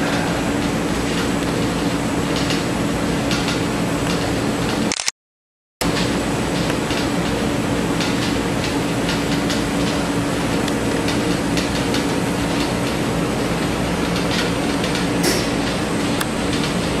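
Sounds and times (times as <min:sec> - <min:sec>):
mechanical rumble and hum: 0:00.0 - 0:04.9, 0:05.8 - 0:17.0.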